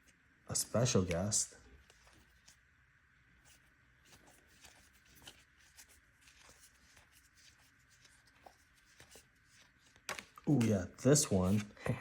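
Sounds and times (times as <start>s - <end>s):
trading cards rustling: 0.7s - 2.7s, 3.4s - 12.0s.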